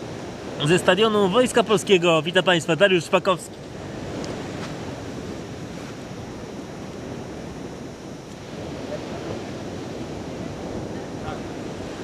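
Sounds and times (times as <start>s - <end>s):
surf washing onto beach: 0.0s - 7.4s, 8.3s - 12.0s
wind: 0.0s - 12.0s.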